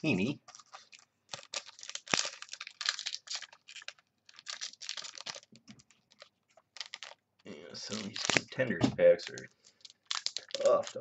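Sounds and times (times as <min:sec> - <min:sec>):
card pack wrapper tearing: 0:00.2 - 0:07.2, 0:07.8 - 0:08.6, 0:09.2 - 0:11.0.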